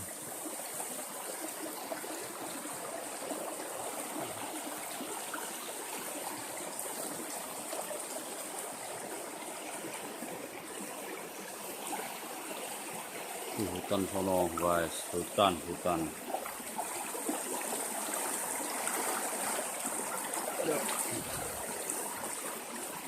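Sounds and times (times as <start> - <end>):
river water running over rocks: 0.0 - 23.0.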